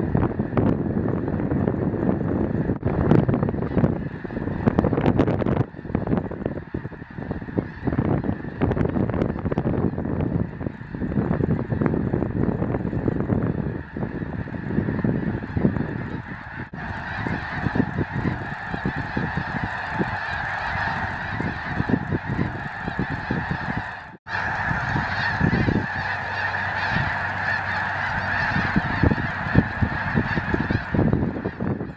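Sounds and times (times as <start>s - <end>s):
geese honking and yelping: 0.0s - 31.9s.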